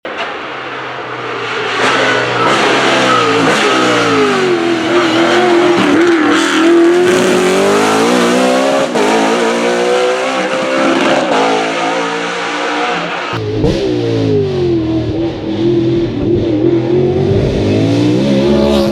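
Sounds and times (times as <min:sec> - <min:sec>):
race car engine revving: 0:00.1 - 0:18.9.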